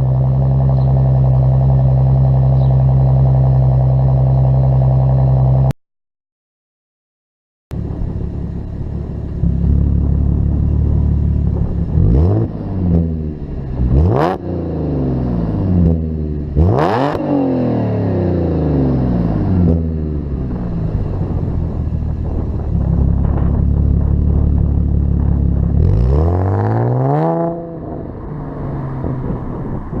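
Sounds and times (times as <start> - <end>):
car engine revving: 0.0 - 5.7, 7.7 - 30.0.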